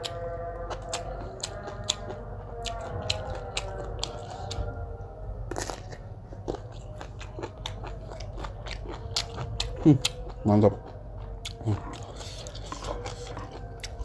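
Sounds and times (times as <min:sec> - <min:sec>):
food crunching while chewed: 0:00.0 - 0:04.8, 0:05.5 - 0:14.0.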